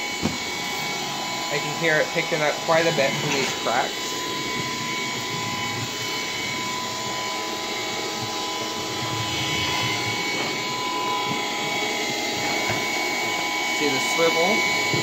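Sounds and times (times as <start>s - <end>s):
stick vacuum motor whine: 0.0s - 15.0s.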